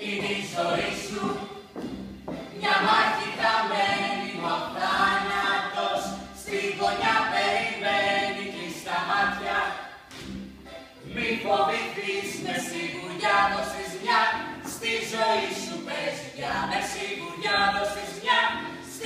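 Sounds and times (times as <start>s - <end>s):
group singing without instruments: 0.0s - 10.1s, 11.0s - 19.0s.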